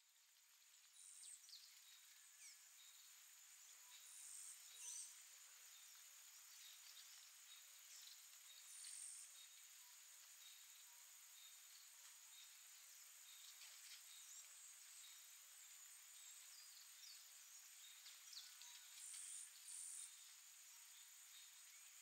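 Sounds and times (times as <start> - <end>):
insect chirring: 0.1 - 22.0
loud insect chirps: 0.2 - 22.0.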